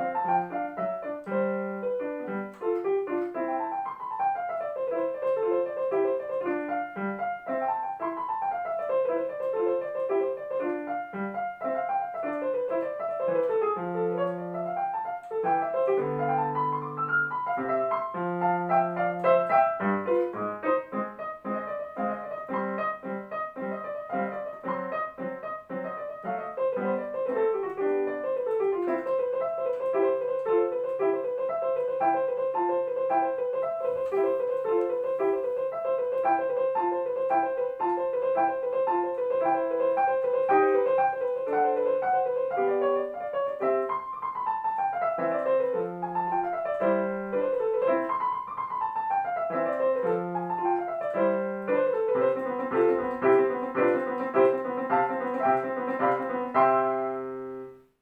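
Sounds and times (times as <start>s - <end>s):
digital piano classical piece: 0.0s - 58.0s.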